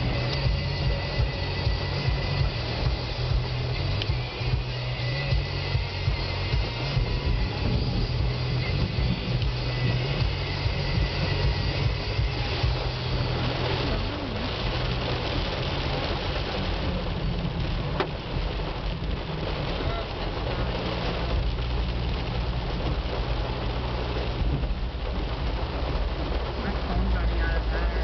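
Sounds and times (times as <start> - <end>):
heavy rain: 0.0 - 28.0
low engine hum: 0.0 - 28.0
tyres on wet road: 0.0 - 28.0
windshield wipers running: 0.0 - 28.0.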